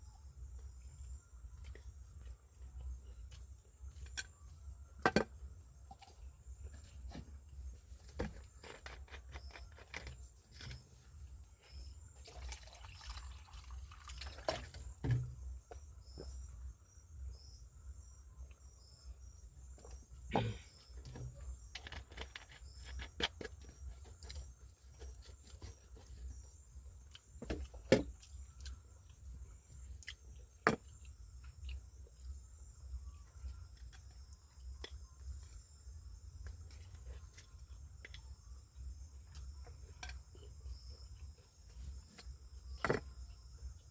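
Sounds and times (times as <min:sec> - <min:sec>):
night insects singing: 0:00.0 - 0:43.9.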